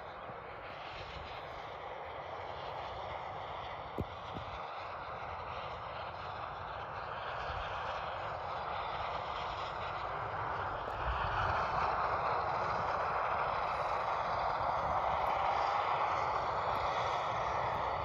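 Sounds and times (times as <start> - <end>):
helicopter turbines and rotor: 0.0 - 18.0.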